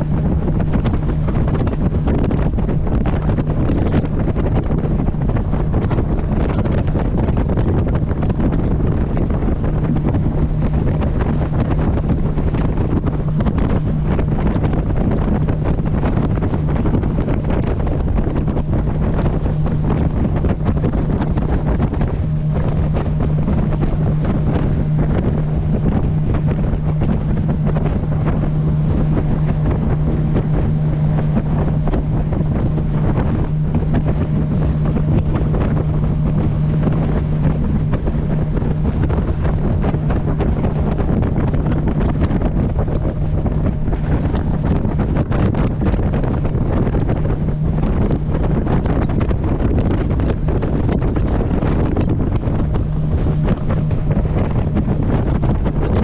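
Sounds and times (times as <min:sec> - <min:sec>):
motorboat engine droning: 0:00.0 - 0:56.0
water rushing past hull: 0:00.0 - 0:56.0
wind buffeting microphone: 0:00.0 - 0:56.0.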